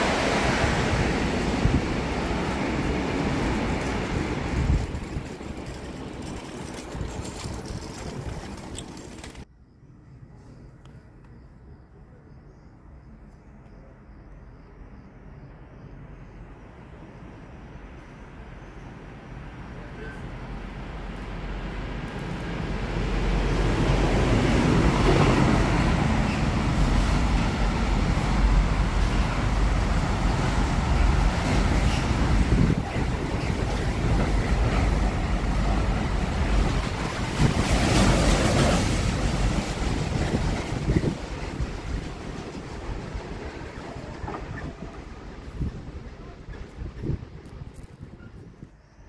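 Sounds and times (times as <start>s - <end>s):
freight train rumbling past: 0.0s - 9.4s, 15.2s - 49.0s.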